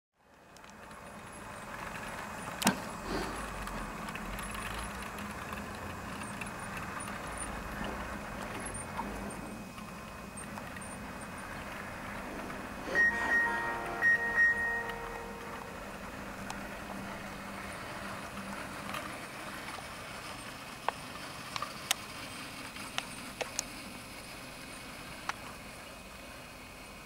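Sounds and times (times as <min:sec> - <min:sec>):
model train wheels rumbling: 0:00.3 - 0:12.9, 0:14.6 - 0:25.6
low motor hum: 0:00.3 - 0:25.5.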